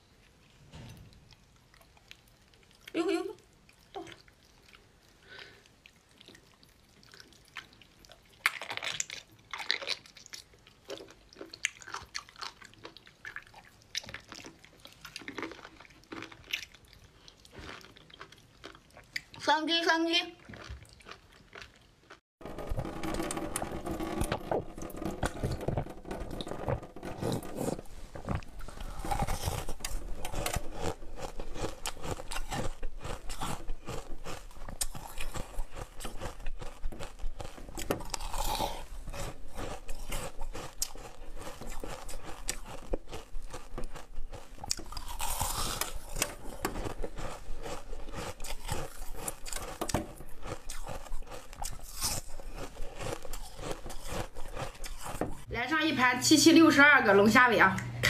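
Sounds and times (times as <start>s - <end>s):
crisp cabbage crunching: 6.2s - 19.5s, 20.4s - 55.5s.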